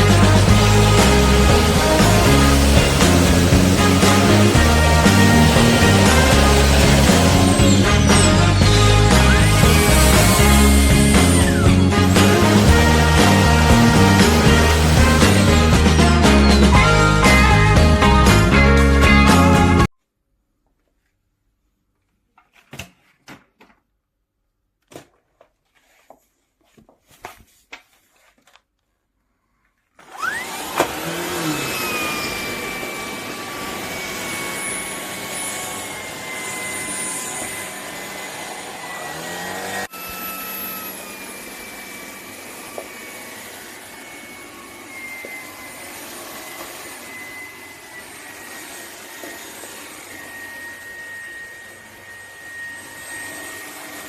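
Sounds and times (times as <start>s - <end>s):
vacuum cleaner motor whine: 0.0s - 19.7s, 30.0s - 54.0s.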